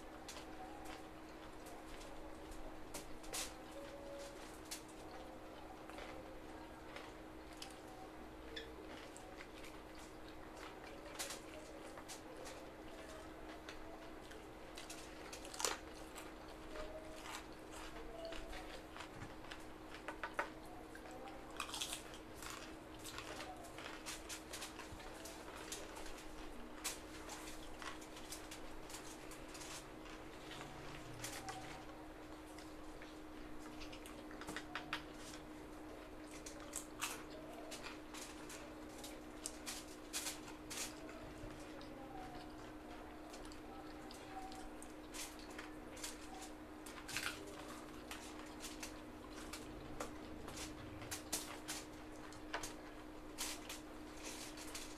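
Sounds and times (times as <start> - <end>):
faint steady hum: 0.0 - 54.9
people chewing and lip smacking: 0.0 - 54.9
small crunches and clicks of food: 0.0 - 54.9.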